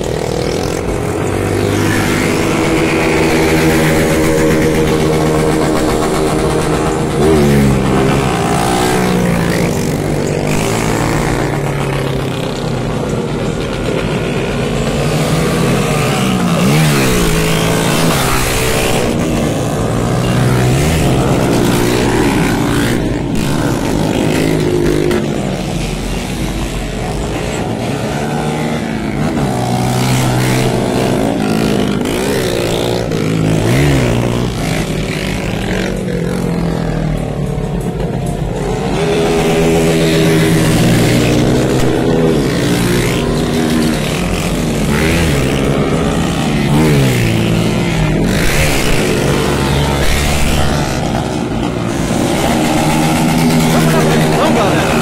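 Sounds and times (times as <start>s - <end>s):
motorcycles revving past: 0.0s - 55.0s.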